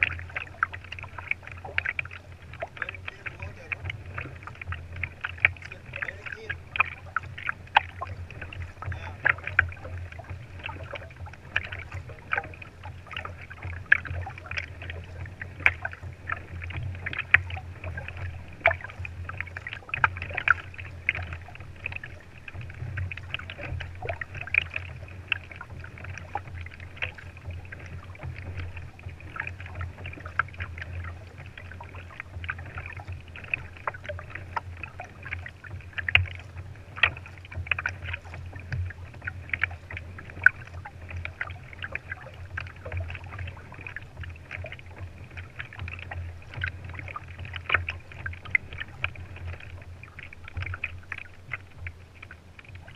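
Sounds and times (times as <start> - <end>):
steady low rumble: 0.0 - 52.9
water lapping against kayak hull: 0.0 - 52.9.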